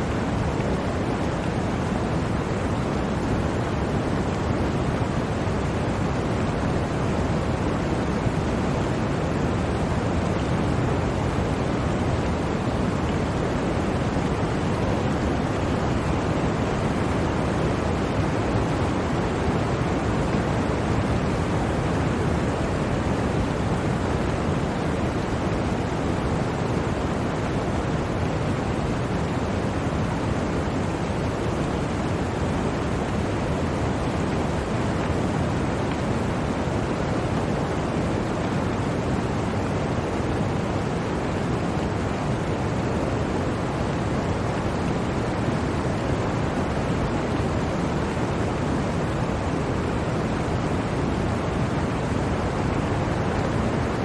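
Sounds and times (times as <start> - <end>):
blizzard wind rushing: 0.0 - 54.0.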